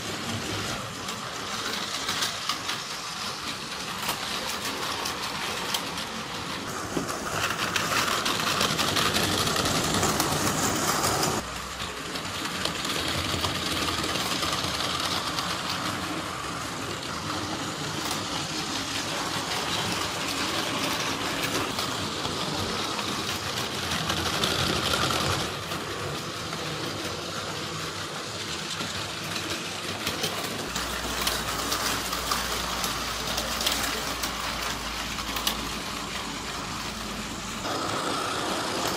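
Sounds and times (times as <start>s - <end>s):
toy train motors whirring: 0.0s - 38.9s
wheels clattering on plastic track: 0.0s - 38.9s.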